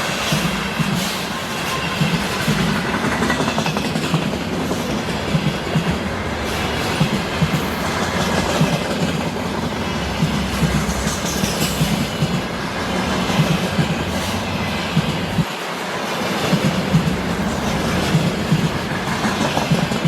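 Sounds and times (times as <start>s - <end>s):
freight train rolling on rails: 0.0s - 20.0s.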